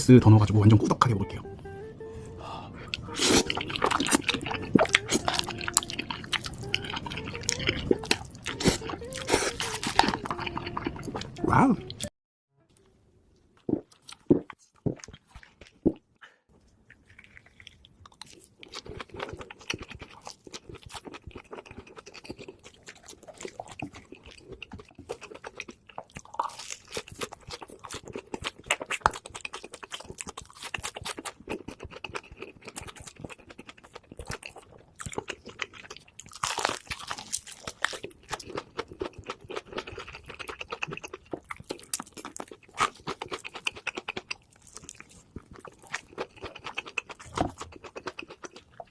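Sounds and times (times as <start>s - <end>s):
chewing and biting food: 2.9s - 11.4s, 13.6s - 48.9s.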